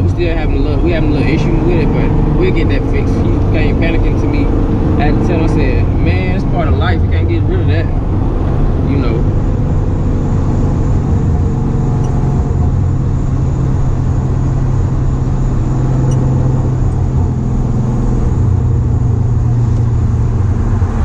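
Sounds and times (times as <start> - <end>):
car engine and road noise drone: 0.0 - 21.0.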